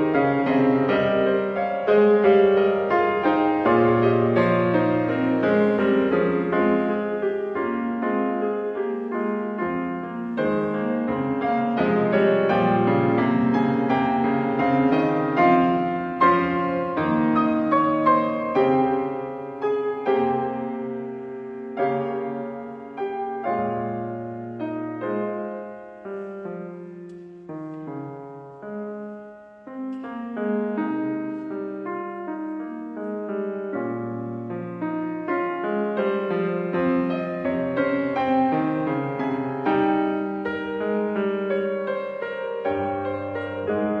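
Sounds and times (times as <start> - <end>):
solo piano playing: 0.0 - 44.0.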